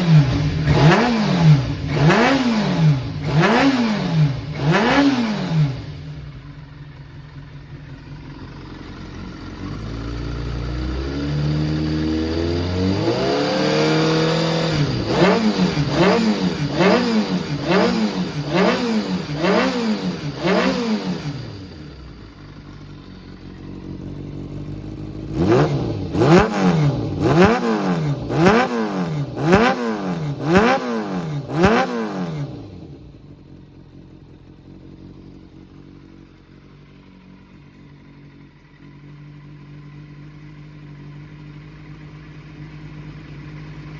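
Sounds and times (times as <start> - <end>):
motorcycle engine idling and revving: 0.0 - 43.9.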